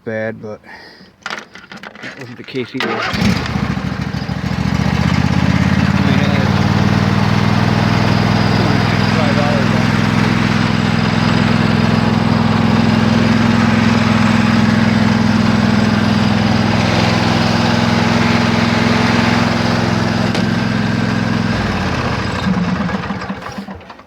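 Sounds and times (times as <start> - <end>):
lawn tractor engine running: 2.8 - 24.0.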